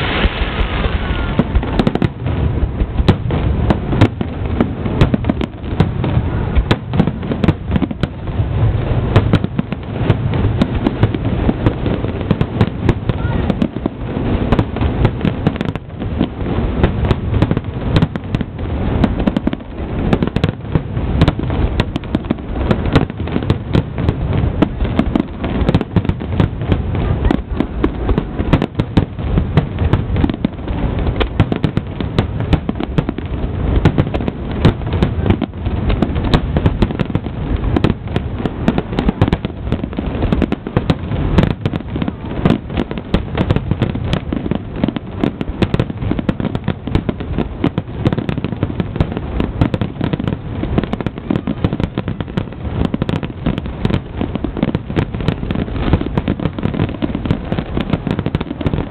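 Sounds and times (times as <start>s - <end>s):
fireworks bursting and crackling: 0.0s - 58.9s.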